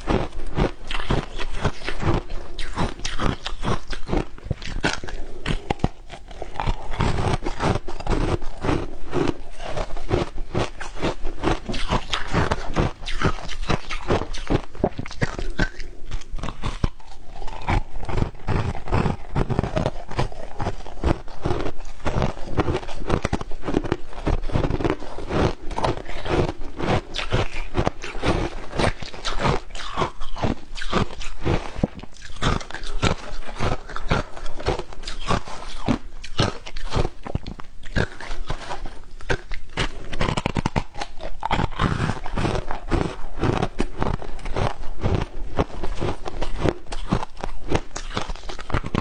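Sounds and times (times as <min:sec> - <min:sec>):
crunching and chewing ice: 0:00.0 - 0:49.0.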